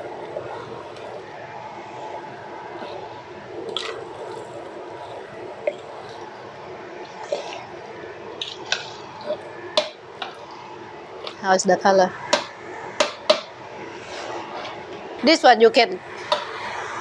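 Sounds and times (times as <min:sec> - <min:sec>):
wet squishing of stirring: 0:00.0 - 0:11.5, 0:12.2 - 0:15.2.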